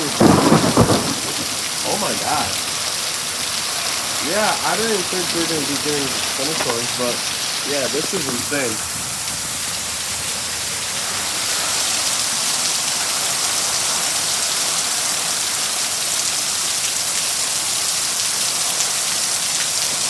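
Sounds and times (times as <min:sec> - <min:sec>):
torrential rain: 0:00.0 - 0:20.0.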